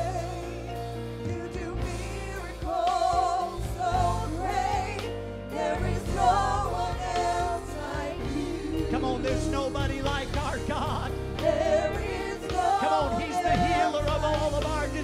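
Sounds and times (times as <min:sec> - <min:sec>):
band with steady bass: 0:00.0 - 0:15.0.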